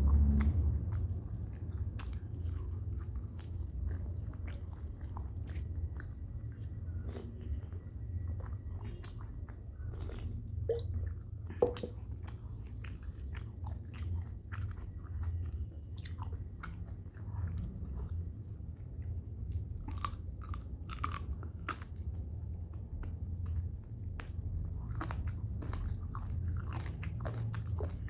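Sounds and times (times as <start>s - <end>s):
person chewing food: 0.0s - 28.0s
steady low hum: 0.0s - 28.0s.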